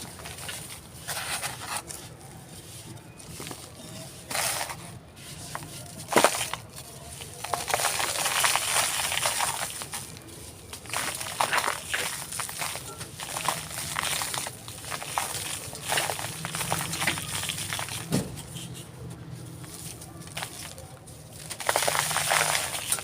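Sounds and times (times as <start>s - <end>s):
cement crumbling and crunching by hand: 0.0s - 23.0s.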